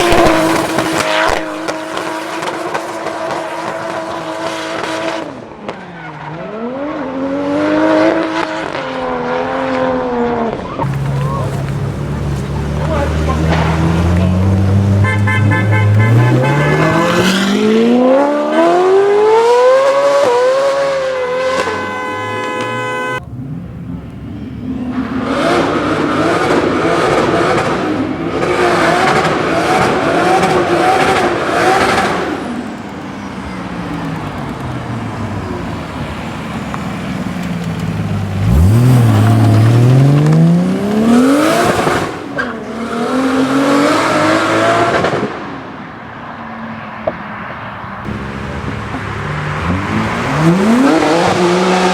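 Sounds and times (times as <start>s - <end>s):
car engines accelerating hard: 0.0s - 51.9s.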